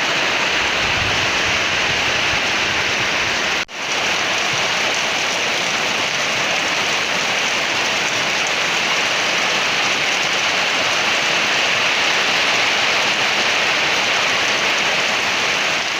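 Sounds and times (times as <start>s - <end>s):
rain falling on leaves: 0.0s - 15.9s.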